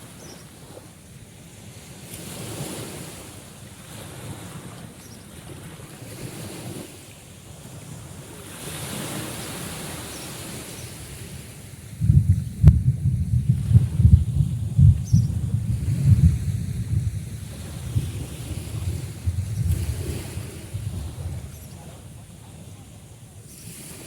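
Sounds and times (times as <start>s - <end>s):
sea waves washing on shore: 0.0s - 24.0s.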